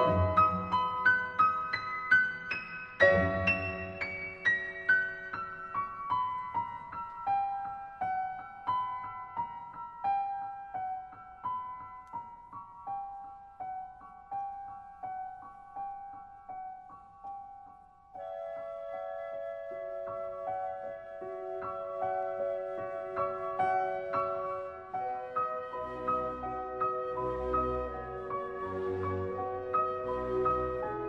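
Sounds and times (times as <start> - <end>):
slow solo piano: 0.0 - 31.0.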